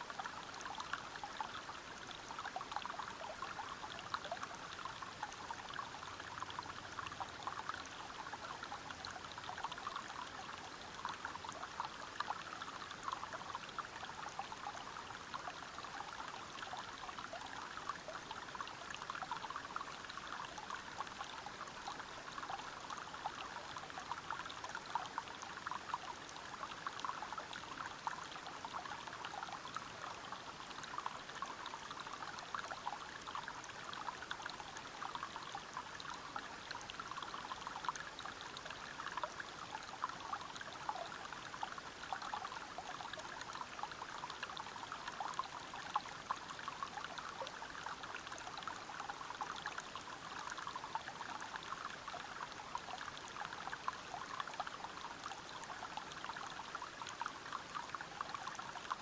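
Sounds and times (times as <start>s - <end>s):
small splashes and trickles: 0.0s - 59.0s.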